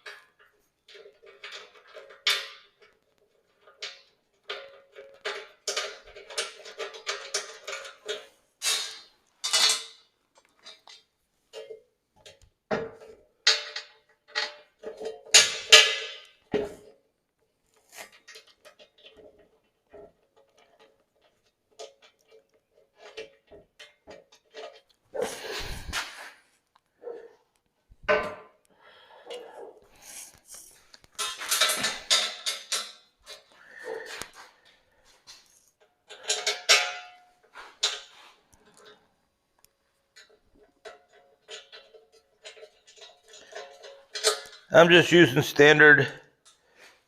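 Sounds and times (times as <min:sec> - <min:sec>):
metallic clinks and clanks: 0:00.0 - 0:16.9, 0:17.9 - 0:26.0, 0:28.0 - 0:46.6.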